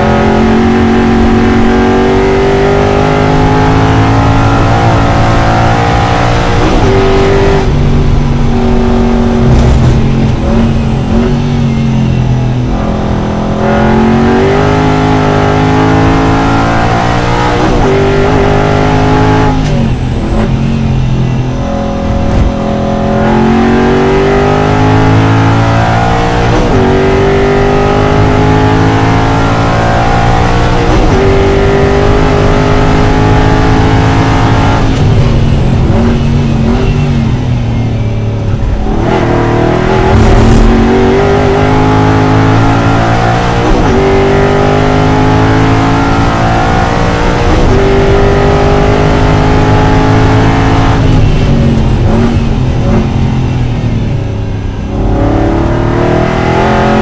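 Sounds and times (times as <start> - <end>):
race car engine accelerating: 0.0 - 57.0.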